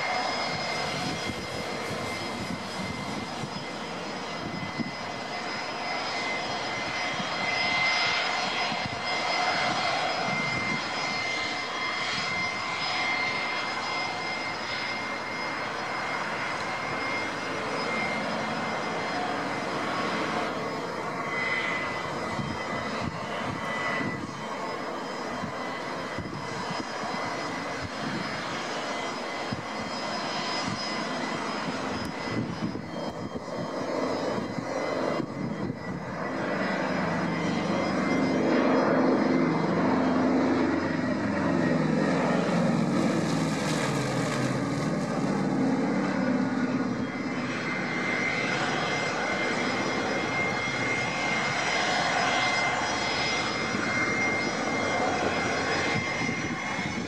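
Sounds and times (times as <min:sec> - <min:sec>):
airliner piston engines droning: 0:00.0 - 0:57.0.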